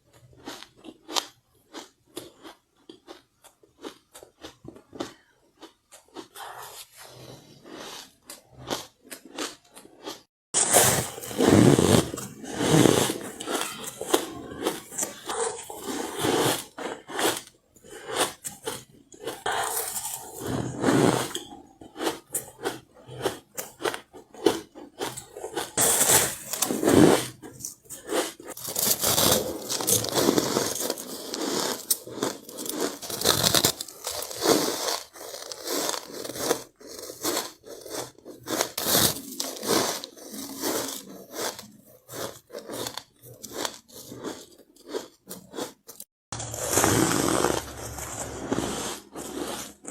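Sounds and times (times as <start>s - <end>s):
crunching and chewing ice: 0.0s - 49.9s.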